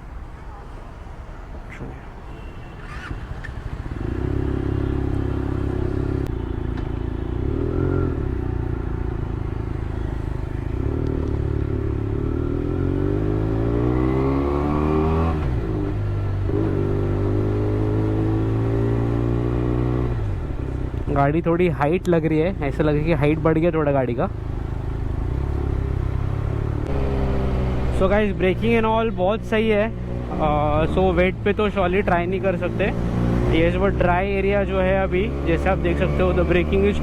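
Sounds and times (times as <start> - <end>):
motorcycle engine accelerating: 2.8 - 21.0, 24.4 - 28.8, 29.9 - 37.0.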